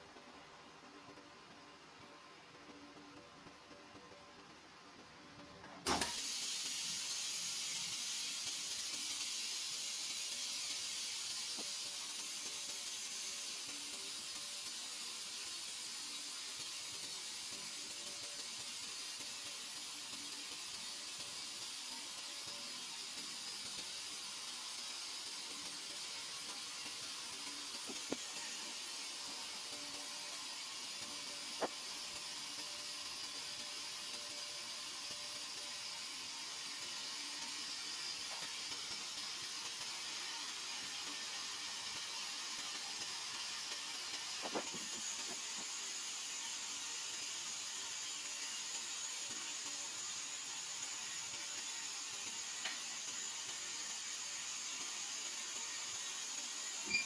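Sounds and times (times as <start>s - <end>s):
machine press air hiss: 5.8s - 57.0s.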